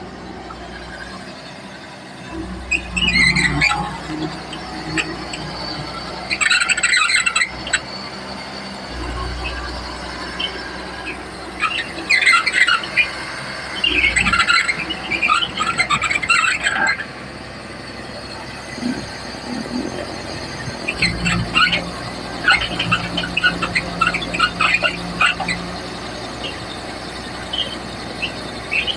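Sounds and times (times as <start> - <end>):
bulldozer diesel engine running: 0.0 - 28.9
high squeals: 0.0 - 28.9.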